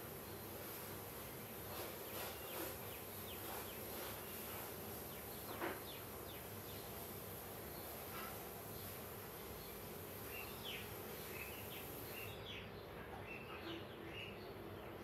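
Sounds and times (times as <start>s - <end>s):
steady hiss and low hum: 0.0s - 15.0s.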